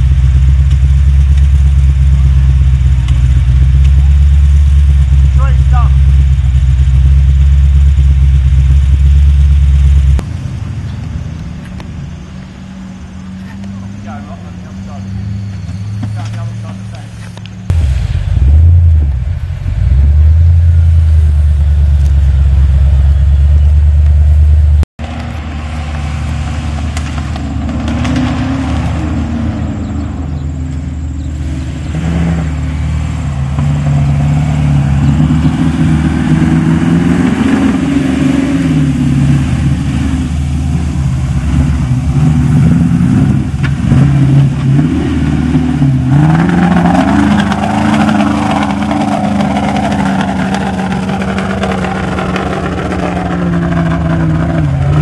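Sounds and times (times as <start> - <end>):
engine revving: 0.0 - 55.0
loud low engine drone: 0.0 - 55.0.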